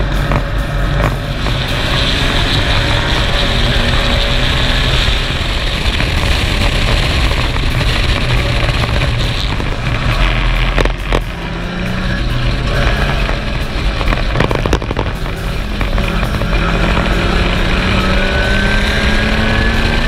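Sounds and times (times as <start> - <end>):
other racing car engines: 0.0 - 20.0
racing car engine accelerating: 0.0 - 20.0.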